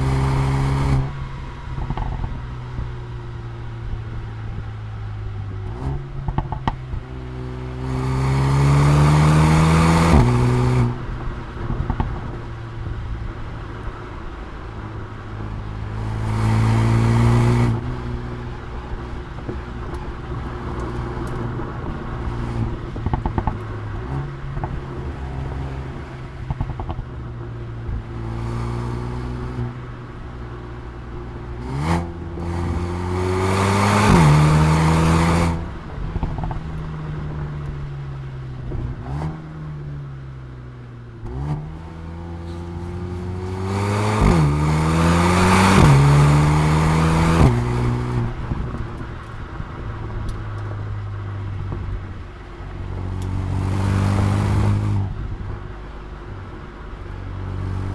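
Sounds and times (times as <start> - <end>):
car engine revving: 0.0 - 40.3, 40.9 - 57.9
exhaust crackles: 0.0 - 57.9.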